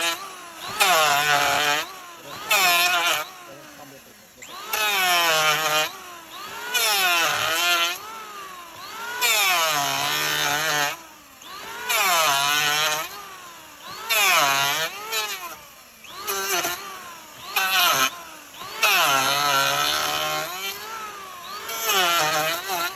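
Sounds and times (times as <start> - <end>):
rasping cutting noise: 0.0 - 22.9
wood-cutting power tool revving: 0.0 - 22.9.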